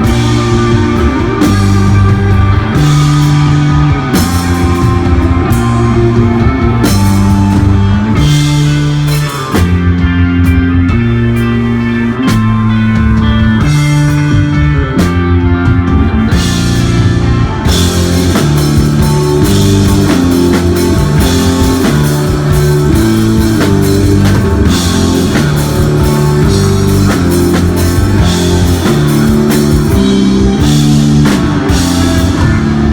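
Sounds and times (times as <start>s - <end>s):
bass guitar low notes: 0.0s - 32.9s
rock band playing: 0.0s - 32.9s.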